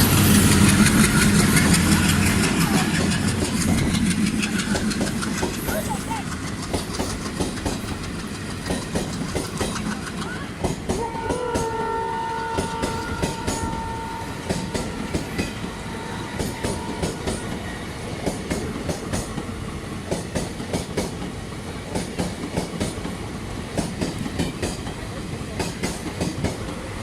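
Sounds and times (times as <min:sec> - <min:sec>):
rumble of train coaches: 0:00.0 - 0:27.0
train wheels clacking over rail joints: 0:00.0 - 0:27.0.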